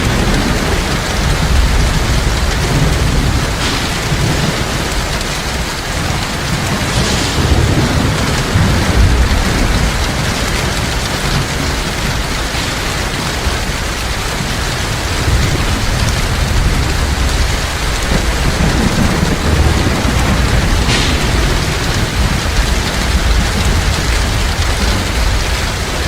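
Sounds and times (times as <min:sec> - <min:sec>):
heavy rain falling: 0:00.0 - 0:26.0
low thunder rumbles: 0:00.0 - 0:26.0.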